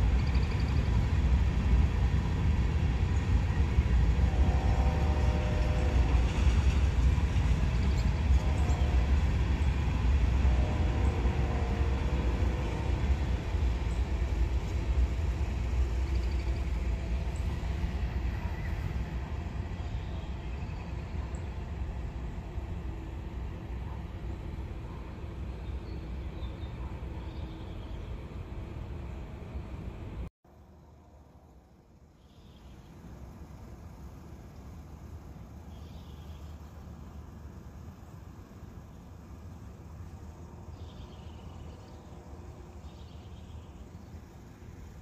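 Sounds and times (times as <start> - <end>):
freight train rolling by: 0.0 - 45.0.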